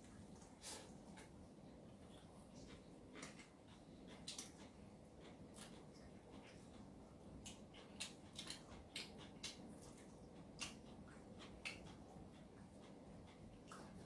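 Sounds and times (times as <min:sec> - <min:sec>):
small clicks and ticks: 0:02.0 - 0:14.0.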